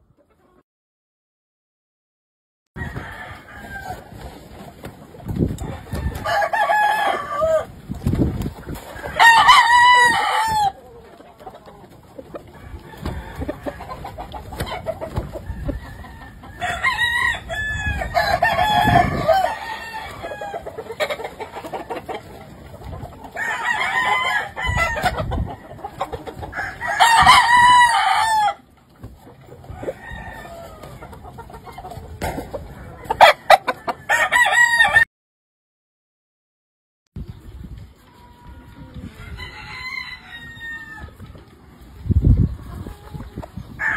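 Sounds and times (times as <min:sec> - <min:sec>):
roosters crowing: 0:02.8 - 0:04.6, 0:05.2 - 0:35.1, 0:38.5 - 0:41.4, 0:42.8 - 0:43.9.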